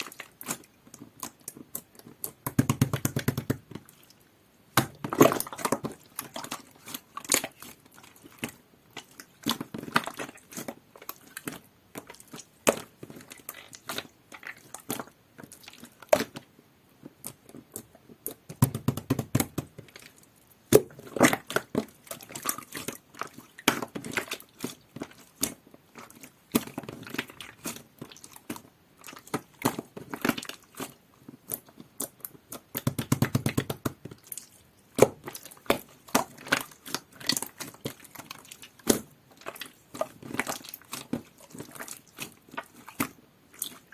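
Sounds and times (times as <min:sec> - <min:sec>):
slime squelching: 0:00.0 - 0:43.9.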